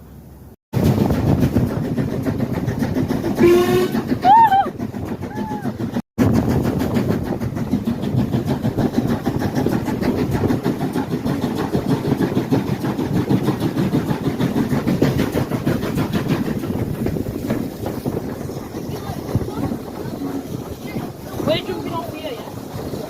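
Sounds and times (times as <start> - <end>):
train rumbling and rattling: 0.0 - 23.0.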